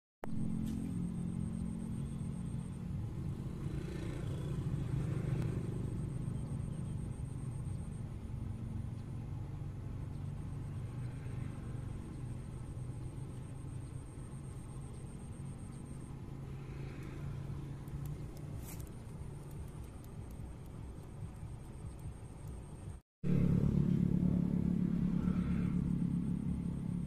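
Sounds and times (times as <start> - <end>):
vehicle engine rumble: 0.3 - 27.0.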